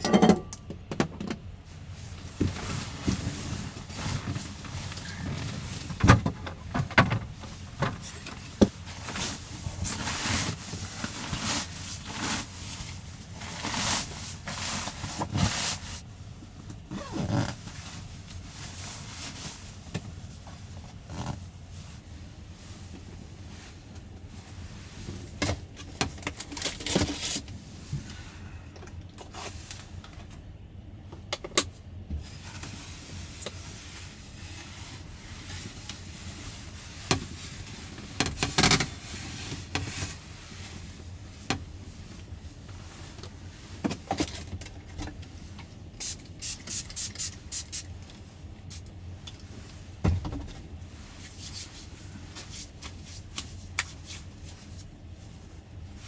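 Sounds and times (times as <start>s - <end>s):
handling noises rubbing and scraping: 1.7s - 28.3s, 32.2s - 56.0s.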